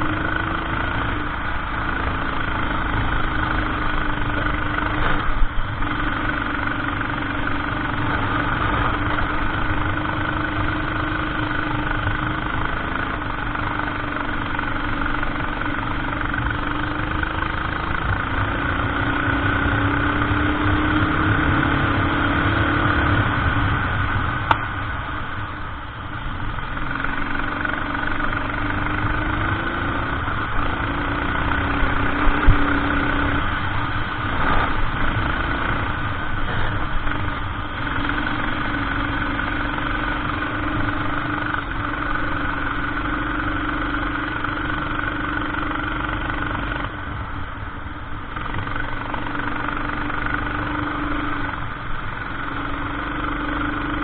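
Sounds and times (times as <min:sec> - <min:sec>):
kart engine revving: 0:00.0 - 0:24.5, 0:26.4 - 0:47.3, 0:48.2 - 0:54.0.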